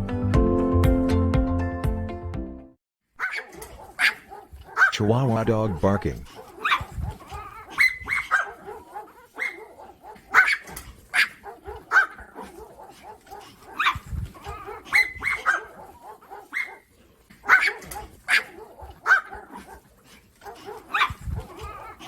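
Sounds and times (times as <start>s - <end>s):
small dog barking: 3.2s - 22.0s.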